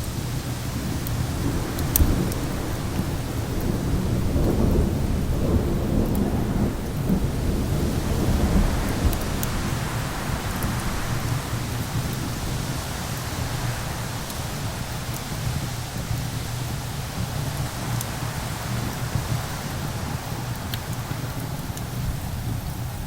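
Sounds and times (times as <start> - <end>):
thunder rolling: 0.0 - 23.0
wind and rain: 0.0 - 23.0
wood fire crackles: 0.0 - 23.0.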